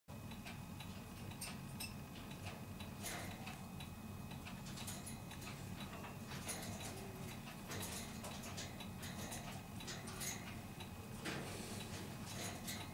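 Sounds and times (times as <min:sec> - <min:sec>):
low steady hum: 0:00.1 - 0:12.9.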